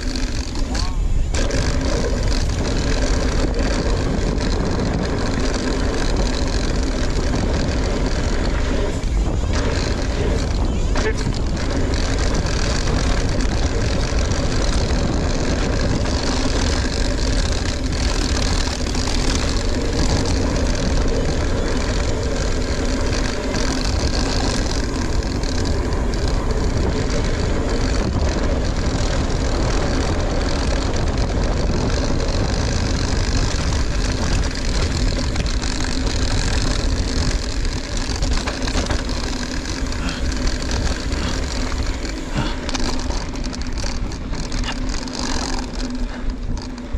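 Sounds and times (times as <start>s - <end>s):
bike rattling: 0.0s - 46.9s
bike tyres rushing: 0.0s - 46.9s
wind: 0.0s - 46.9s.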